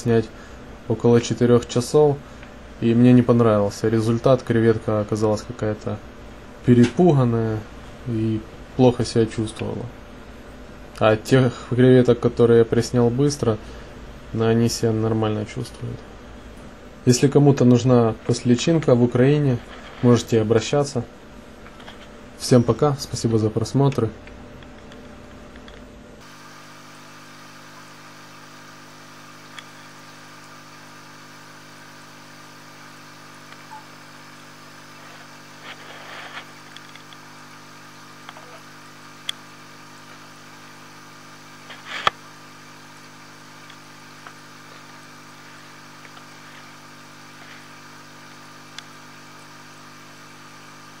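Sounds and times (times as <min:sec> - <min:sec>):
air compressor humming: 0:00.0 - 0:51.0.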